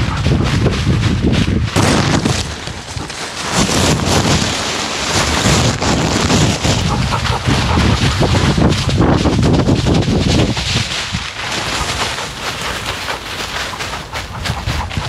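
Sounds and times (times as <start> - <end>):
wind rushing on microphone: 0.0 - 15.0
fur brushing against camera: 1.4 - 15.0.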